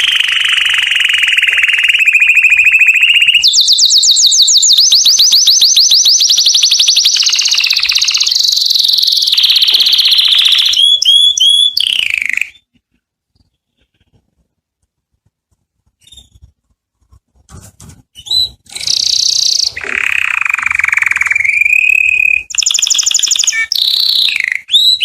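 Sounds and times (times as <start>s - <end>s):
canary singing trills: 0.0s - 12.8s, 16.0s - 16.5s, 18.1s - 25.0s.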